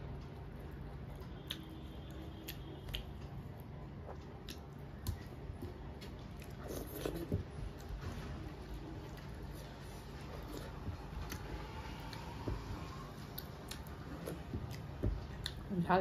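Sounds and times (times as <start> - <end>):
person chewing food: 0.2 - 8.0, 8.6 - 15.7.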